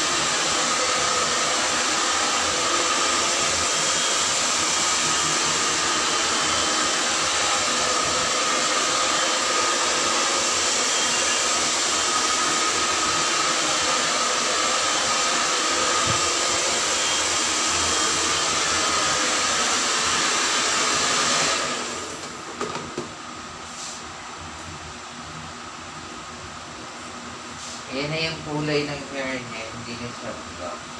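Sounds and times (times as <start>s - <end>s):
hair dryer blowing: 0.0s - 24.1s, 27.4s - 30.9s.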